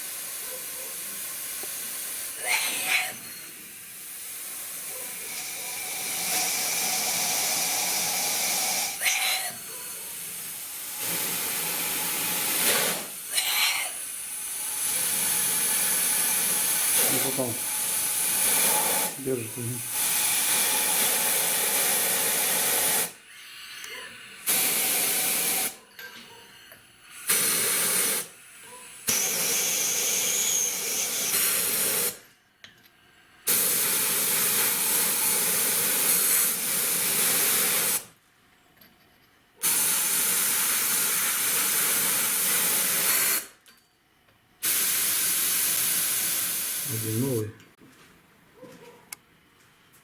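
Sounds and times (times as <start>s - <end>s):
compressed air hissing: 0.0s - 25.8s, 27.0s - 32.2s, 33.5s - 38.1s, 39.6s - 43.6s, 44.6s - 47.3s.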